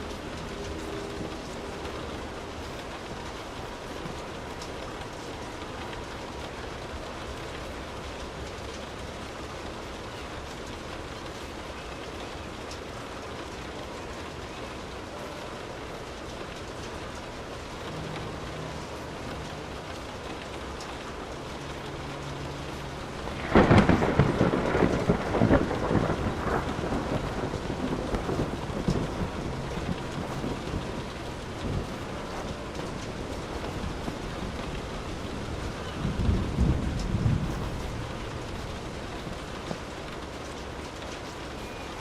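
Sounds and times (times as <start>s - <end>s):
thunderclap rumbling: 0.0s - 7.0s, 12.1s - 42.0s
steady rain: 0.0s - 42.0s.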